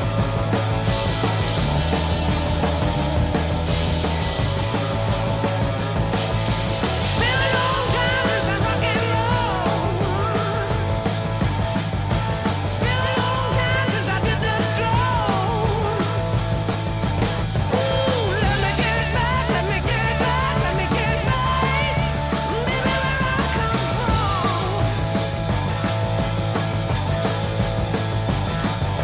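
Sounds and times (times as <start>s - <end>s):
rock song with singing: 0.0s - 29.0s.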